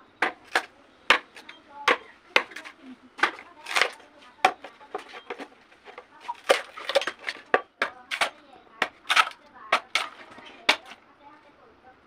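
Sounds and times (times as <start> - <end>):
knife chopping bamboo: 0.2 - 11.0.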